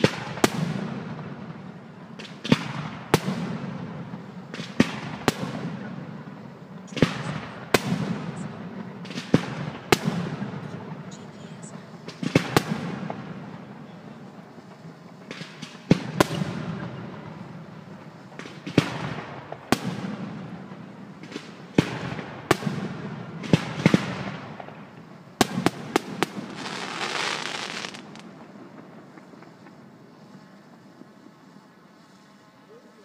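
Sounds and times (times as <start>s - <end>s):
fireworks bursting with echo: 0.0s - 32.5s
fizzing crackle of fireworks: 0.0s - 33.0s.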